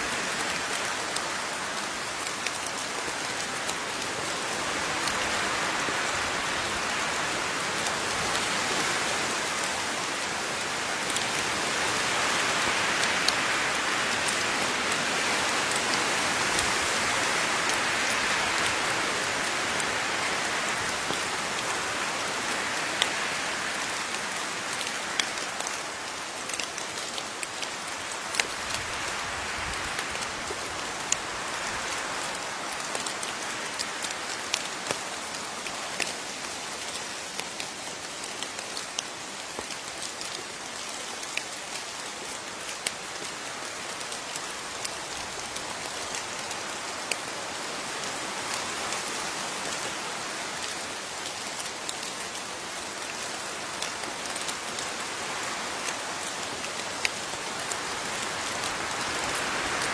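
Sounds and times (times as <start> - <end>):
rain falling: 0.0 - 59.9
raindrops ticking close by: 0.0 - 59.9.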